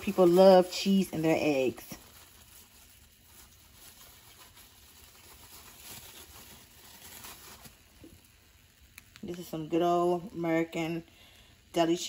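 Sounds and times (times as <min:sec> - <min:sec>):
eggs sizzling in a frying pan: 0:00.0 - 0:12.0.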